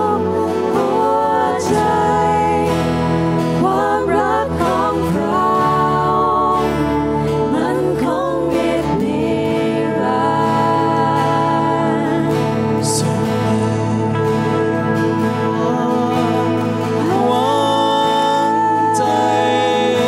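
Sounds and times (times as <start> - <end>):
band playing slow worship song: 0.0 - 20.0
person singing: 0.0 - 20.0.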